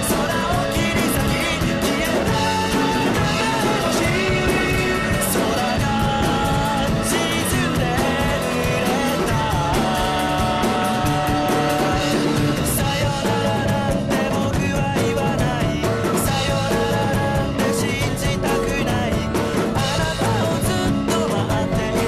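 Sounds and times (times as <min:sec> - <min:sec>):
rock song with singing: 0:00.0 - 0:22.0.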